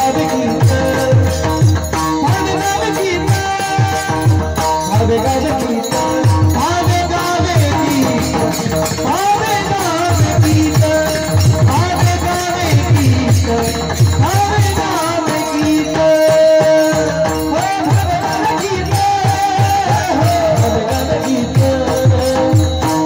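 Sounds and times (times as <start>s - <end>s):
jingling hand percussion: 0.0s - 23.0s
man singing in a high voice: 0.0s - 23.0s.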